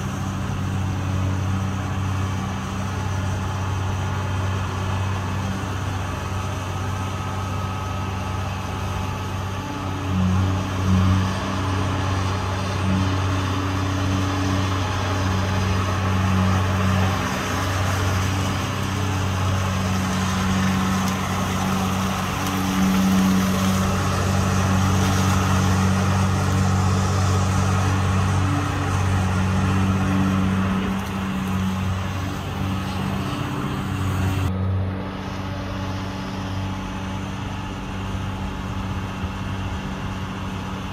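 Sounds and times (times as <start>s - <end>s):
excavator diesel engine humming: 0.0s - 40.9s.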